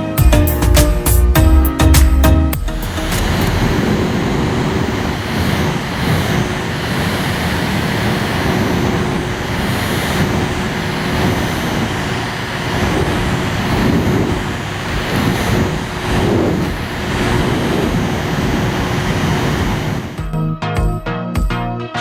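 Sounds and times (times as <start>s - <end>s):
faint hum: 2.6s - 20.2s
small fan rushing airflow: 2.6s - 20.2s.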